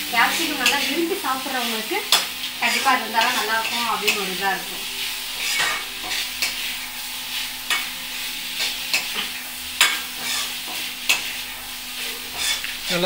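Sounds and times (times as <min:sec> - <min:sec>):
food sizzling in a pan: 0:00.0 - 0:13.0
metal spoon scraping a pan: 0:00.1 - 0:13.0.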